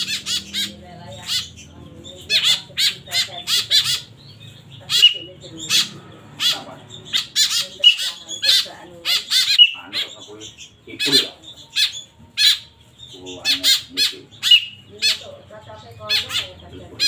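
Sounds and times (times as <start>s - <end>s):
bird chicks begging calls: 0.0s - 17.0s.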